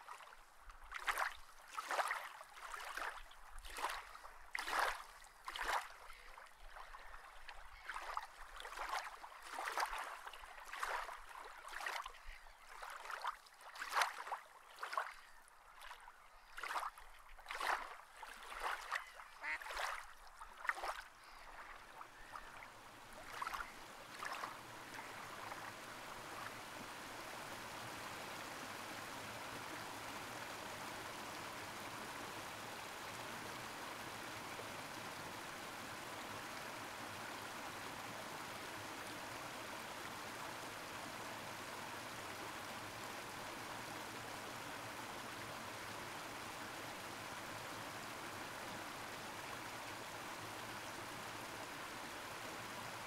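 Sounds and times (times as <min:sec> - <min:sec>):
stream rushing: 0:00.0 - 0:53.0
water splashes: 0:00.0 - 0:53.0.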